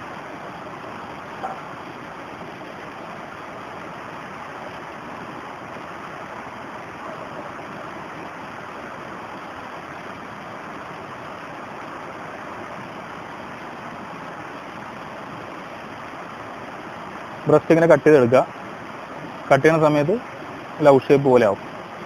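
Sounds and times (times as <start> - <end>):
stream flowing over stones: 0.0 - 22.0.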